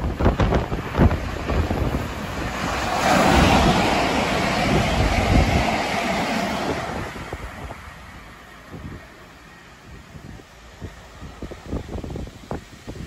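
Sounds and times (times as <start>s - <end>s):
wind on microphone: 0.0s - 9.1s, 9.9s - 13.0s
train passing with rushing wheels: 0.0s - 13.0s.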